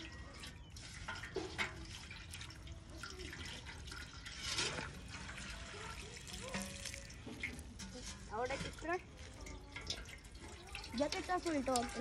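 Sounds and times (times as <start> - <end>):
bucket being scrubbed: 0.0 - 12.0
water splashing in metal bucket: 0.0 - 12.0.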